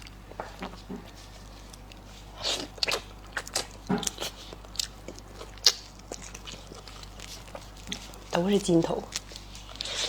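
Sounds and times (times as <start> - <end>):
person chewing meat: 0.0 - 10.0.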